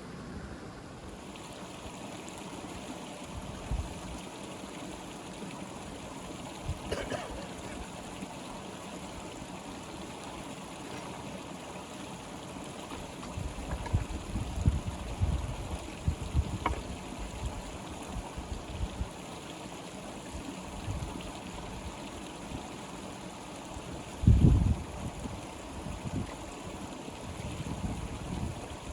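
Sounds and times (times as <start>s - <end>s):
flowing stream water: 0.0s - 28.9s.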